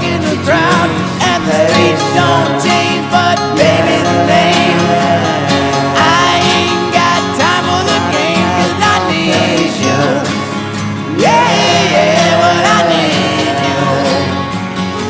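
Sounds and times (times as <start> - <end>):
country song with guitar: 0.0 - 15.0.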